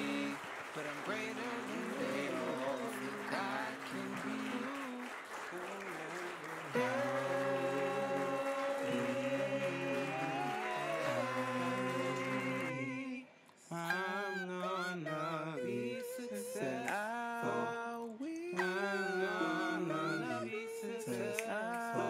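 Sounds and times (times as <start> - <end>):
voices singing in harmony: 0.0 - 22.0.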